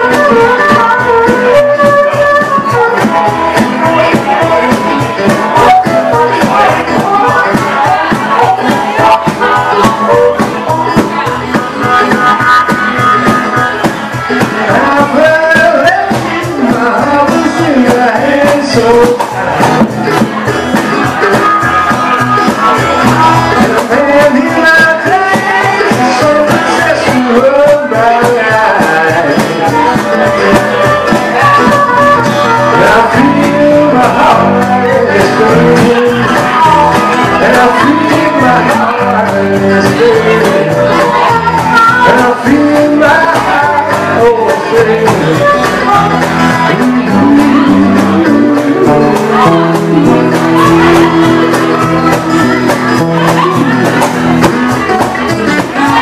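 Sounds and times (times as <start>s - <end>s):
strummed acoustic guitar: 0.0s - 56.0s.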